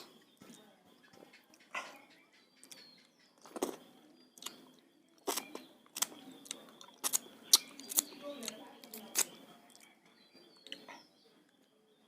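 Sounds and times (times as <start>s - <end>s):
chewing with wet smacks: 0.0s - 11.6s.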